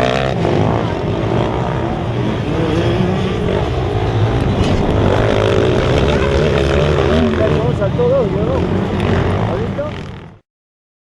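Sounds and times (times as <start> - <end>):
motocross bike engine revving: 0.0 - 10.4.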